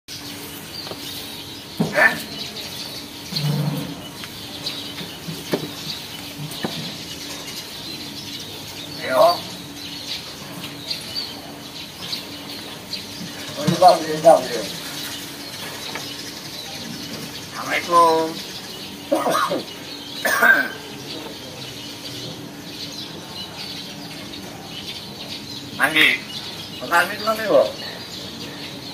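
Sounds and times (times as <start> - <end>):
faint background chirping: 0.1 - 28.9
mynas calling: 0.1 - 28.9.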